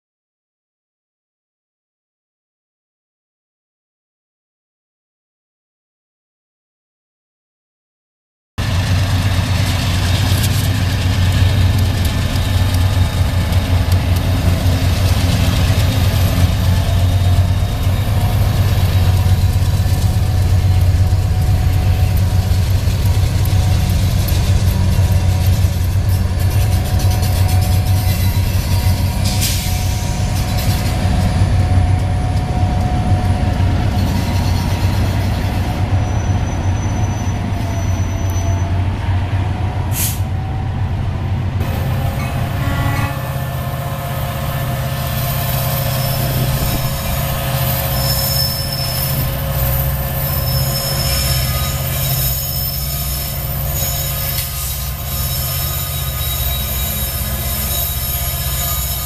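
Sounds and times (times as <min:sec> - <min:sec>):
locomotive rumble: 0:08.6 - 0:59.0
train wheel squeal: 0:08.9 - 0:40.7, 0:41.6 - 0:59.0.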